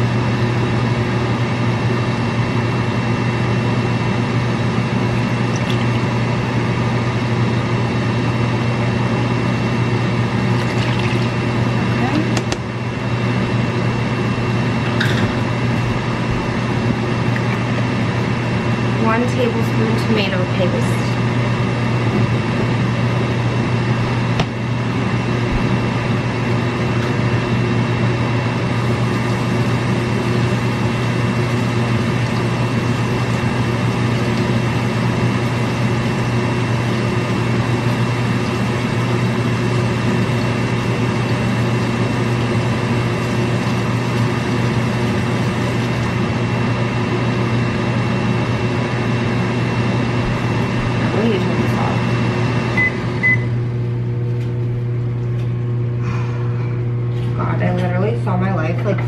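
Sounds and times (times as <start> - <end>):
kitchen appliance humming: 0.0 - 59.0.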